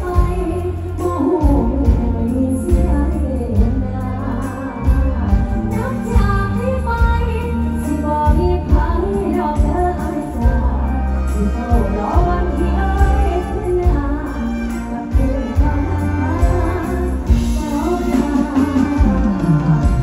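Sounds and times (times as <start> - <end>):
band with heavy bass and drums: 0.0 - 20.0
woman singing into a microphone: 0.0 - 20.0.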